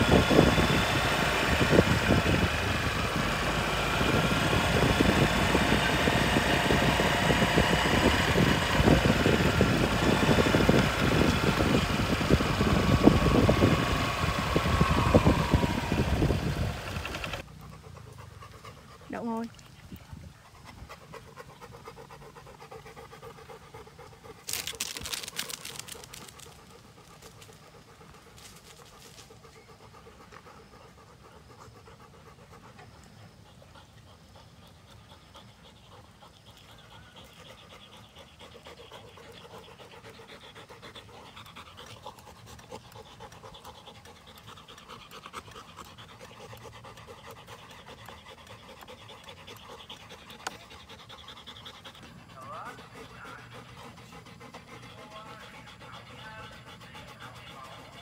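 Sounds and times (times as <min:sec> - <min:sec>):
dogs panting: 0:00.0 - 0:58.0.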